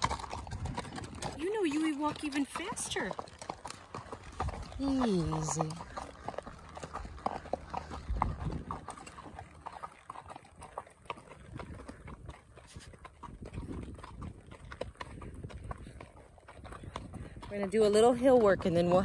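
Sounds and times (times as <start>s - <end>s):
horse hooves on gravel: 0.0s - 19.0s.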